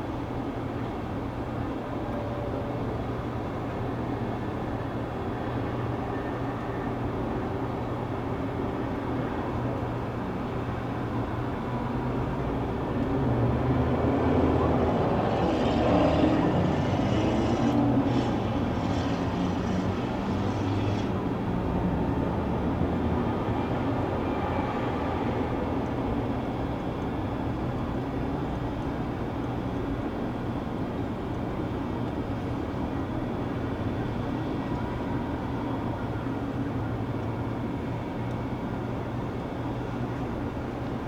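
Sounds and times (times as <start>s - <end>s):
low city hum: 0.0s - 41.0s
distant jet airliner engine: 3.2s - 41.0s.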